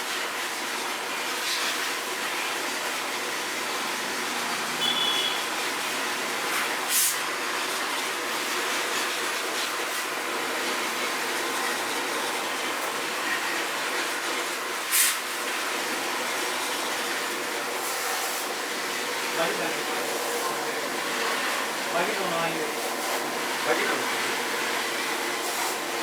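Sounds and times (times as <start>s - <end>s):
water jet spraying: 0.0s - 26.0s.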